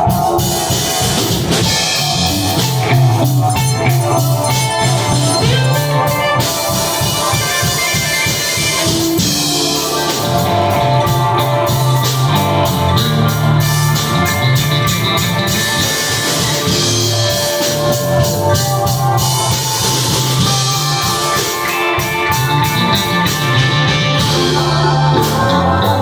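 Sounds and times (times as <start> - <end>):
drum kit: 0.0 - 26.0
live jam session music: 0.0 - 26.0
sustained pitched notes: 0.0 - 26.0.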